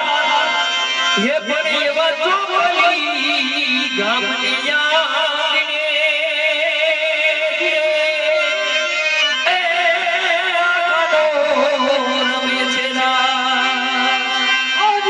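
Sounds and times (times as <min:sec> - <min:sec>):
folk music wavering melody: 0:00.0 - 0:15.0.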